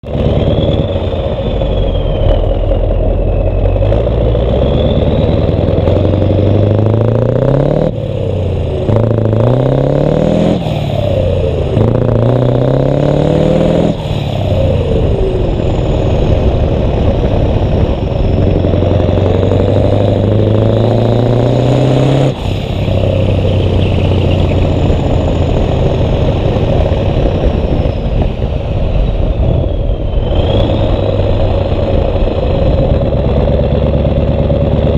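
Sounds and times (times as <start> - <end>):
diesel truck engine pulling hard: 0.0 - 34.9.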